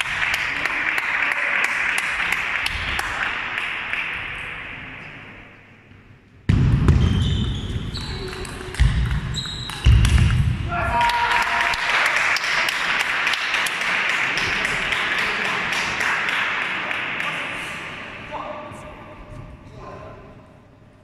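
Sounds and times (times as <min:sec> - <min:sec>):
low rumble in large hall: 0:00.0 - 0:21.0.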